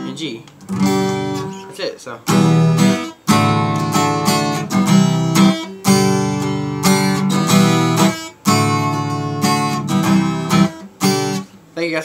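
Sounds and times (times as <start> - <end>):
acoustic guitar strummed chords: 0.0 - 11.7.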